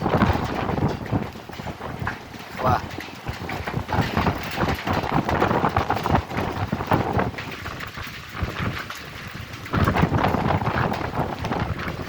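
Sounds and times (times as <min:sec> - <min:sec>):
rain: 0:00.0 - 0:12.0
thunder rumbling: 0:00.0 - 0:12.0.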